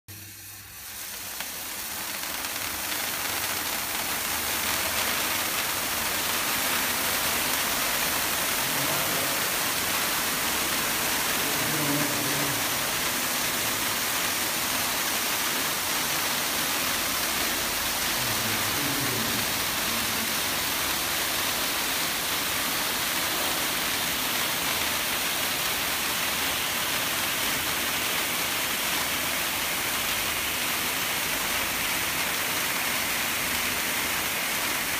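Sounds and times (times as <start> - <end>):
sparkler fountains hissing: 0.1 - 34.9.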